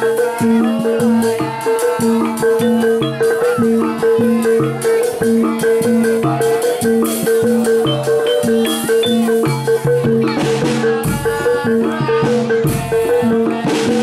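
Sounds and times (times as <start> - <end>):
drums: 0.0 - 14.0
shaker-like percussion: 0.0 - 14.0
tuned metal percussion: 0.0 - 14.0.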